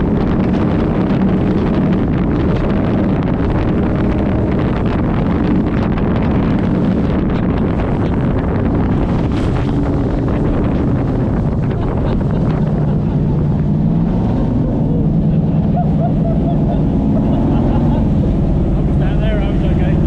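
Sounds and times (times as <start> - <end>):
powerboat engine: 0.0 - 20.0
wind buffeting microphone: 0.0 - 20.0.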